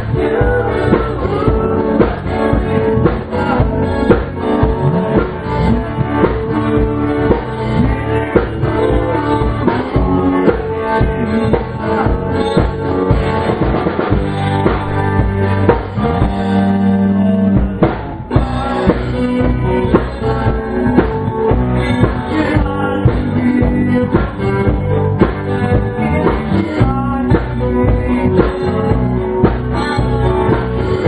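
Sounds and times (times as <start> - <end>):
drum kit beat: 0.0 - 31.0
electric guitars: 0.0 - 31.0.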